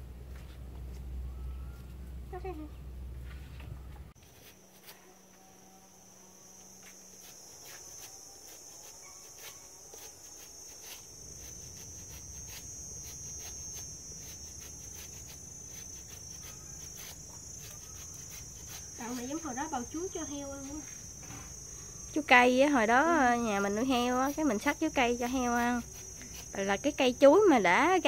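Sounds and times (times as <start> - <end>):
high insect drone: 4.2 - 28.0.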